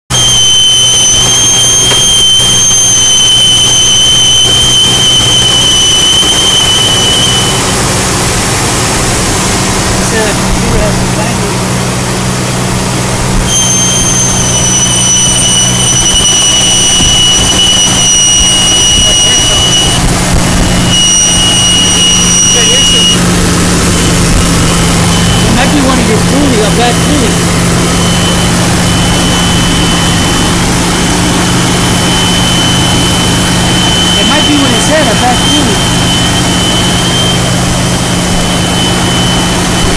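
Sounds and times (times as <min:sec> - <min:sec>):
loud high whistle: 0:00.1 - 0:07.9, 0:13.4 - 0:23.2, 0:24.0 - 0:39.9
car engine humming: 0:00.1 - 0:39.9.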